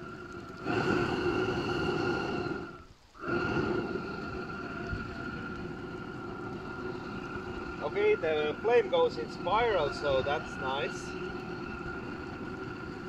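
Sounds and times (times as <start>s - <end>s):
propane burner roaring: 0.0s - 13.0s.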